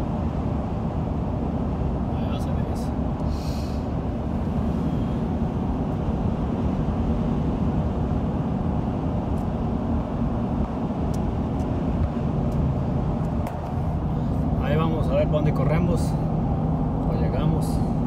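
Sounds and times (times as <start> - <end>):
car cabin road hum: 0.0 - 18.0.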